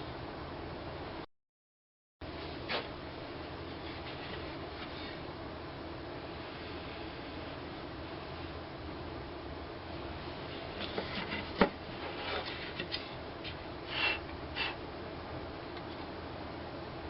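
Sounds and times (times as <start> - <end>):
low workshop hum: 0.0 - 1.3, 2.2 - 17.0.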